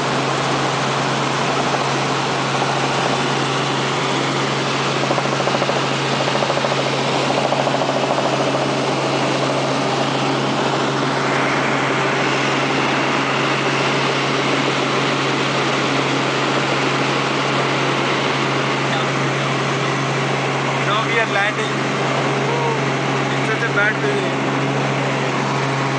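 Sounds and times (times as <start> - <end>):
helicopter cabin engine drone: 0.0 - 25.9.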